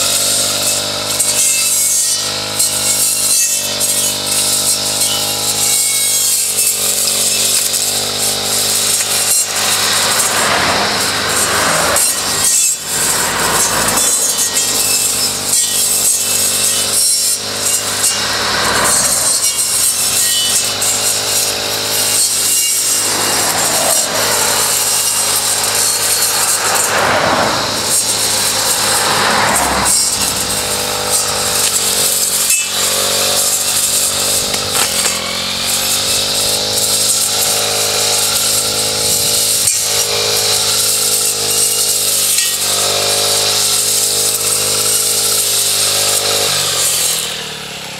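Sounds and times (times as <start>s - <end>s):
brush cutter cutting grass: 0.0s - 47.9s.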